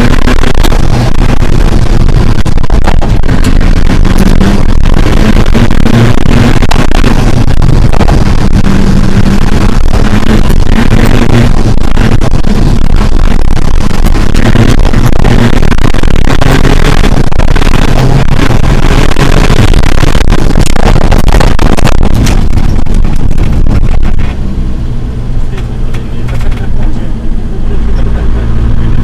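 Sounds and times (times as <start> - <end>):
rally car engine from inside: 0.0 - 29.0.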